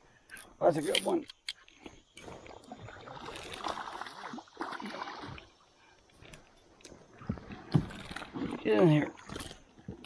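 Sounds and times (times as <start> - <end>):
water splashing and sloshing: 0.8 - 10.0.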